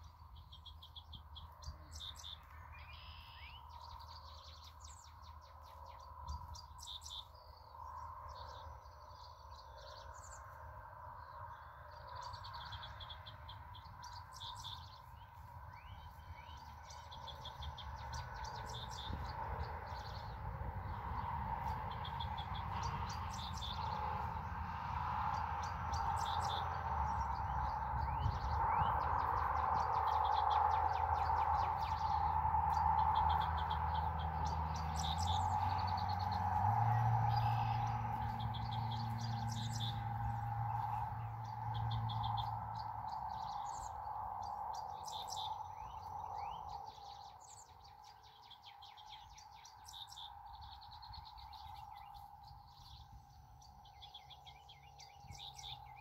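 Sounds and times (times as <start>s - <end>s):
background hum: 0.0s - 56.0s
birds chirping: 0.0s - 56.0s
low drone: 0.0s - 56.0s.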